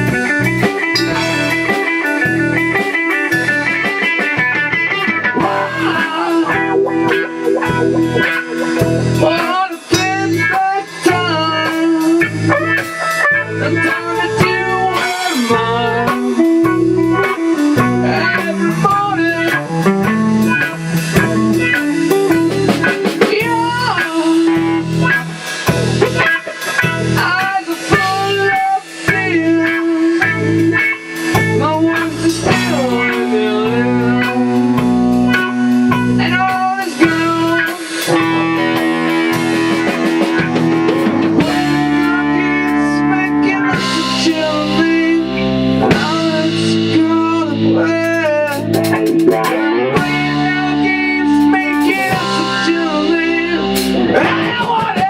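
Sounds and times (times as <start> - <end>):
bass: 0.0 - 55.0
drum kit: 0.0 - 55.0
electric guitar: 0.0 - 55.0.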